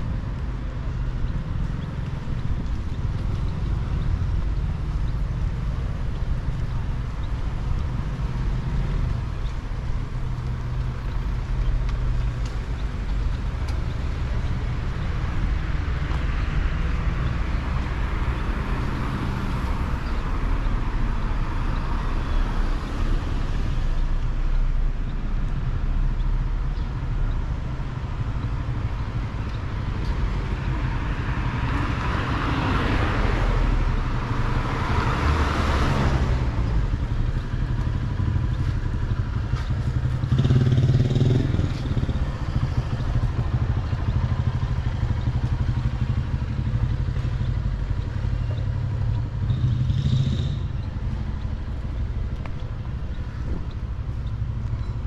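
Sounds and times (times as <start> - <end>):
low traffic rumble: 0.0 - 55.0
vehicles passing: 0.0 - 55.0.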